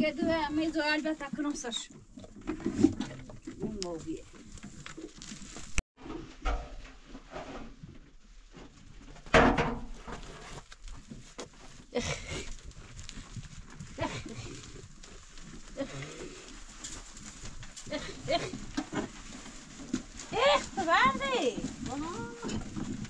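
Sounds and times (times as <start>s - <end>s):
rustling movement: 0.0s - 23.0s.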